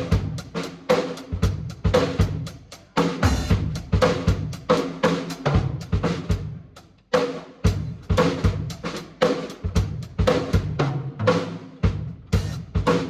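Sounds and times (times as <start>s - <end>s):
drum kit groove: 0.0s - 13.0s.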